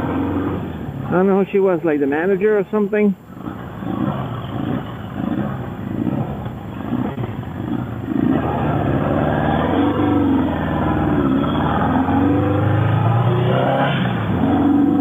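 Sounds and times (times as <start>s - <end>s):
motorcycle engine accelerating: 0.0s - 1.3s, 3.3s - 15.0s.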